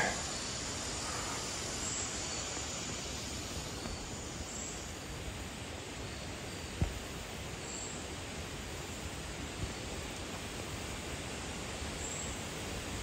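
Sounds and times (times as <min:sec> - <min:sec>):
woodland background hiss: 0:00.0 - 0:13.0.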